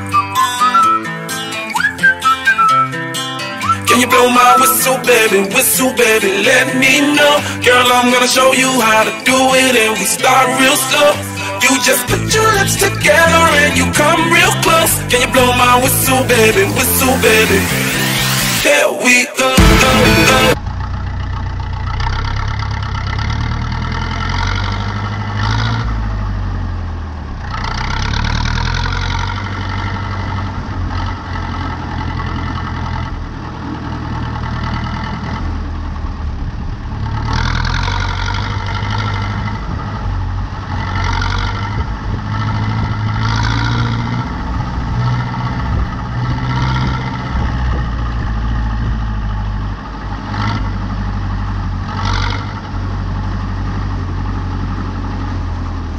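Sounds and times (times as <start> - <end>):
tractor diesel engine running: 0.0 - 18.6, 19.5 - 55.9.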